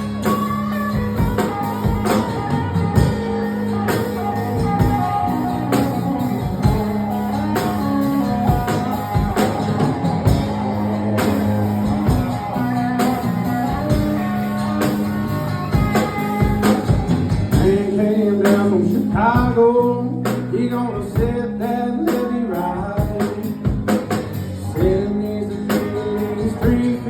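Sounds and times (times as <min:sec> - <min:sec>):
electric guitar: 0:00.0 - 0:27.0
live rock band playing: 0:00.0 - 0:27.0.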